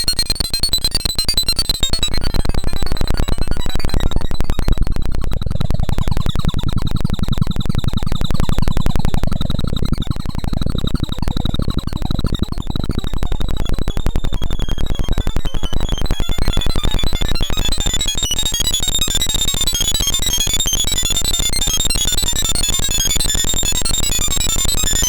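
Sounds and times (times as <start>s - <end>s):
dense chattering synthesized blips: 0.3s - 25.0s.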